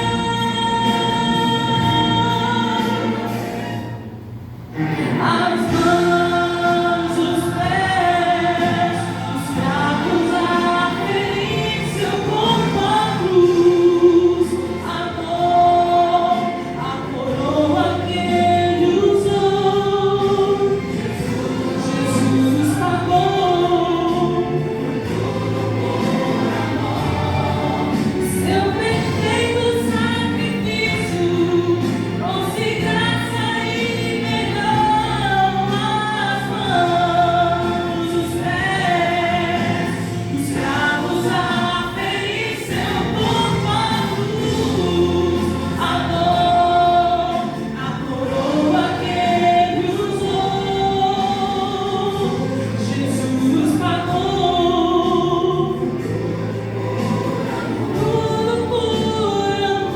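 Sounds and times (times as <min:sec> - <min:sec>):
choir singing gospel song: 0:00.0 - 0:59.9
instrumental backing: 0:00.0 - 0:59.9.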